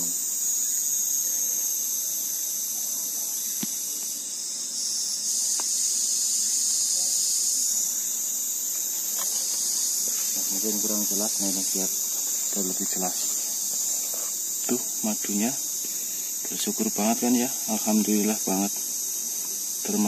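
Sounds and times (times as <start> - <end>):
insect chorus shrilling: 0.0 - 20.0.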